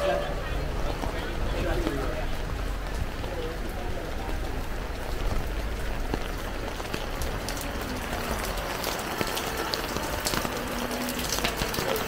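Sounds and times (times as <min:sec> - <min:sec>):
rain falling: 0:00.0 - 0:12.0
sharp raindrop ticks: 0:00.9 - 0:12.0.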